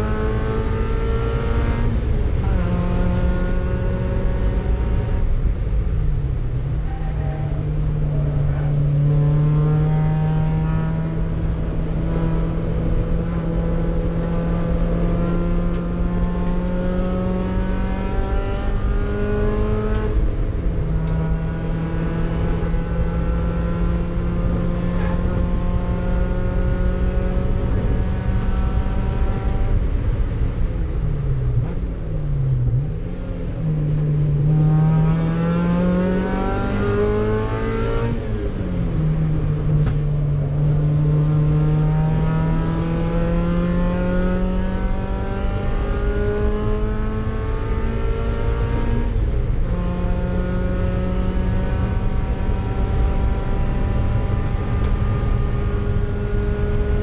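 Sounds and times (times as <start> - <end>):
race car engine revving: 0.0 - 6.0, 6.7 - 57.0.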